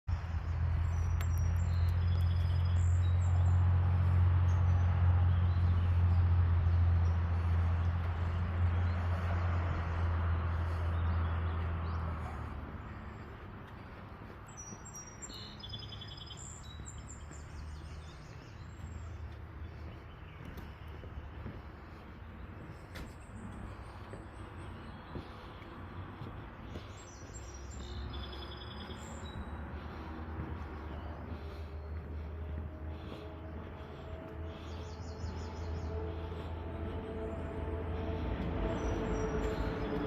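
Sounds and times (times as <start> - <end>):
small birds chirping: 0.1 - 40.0.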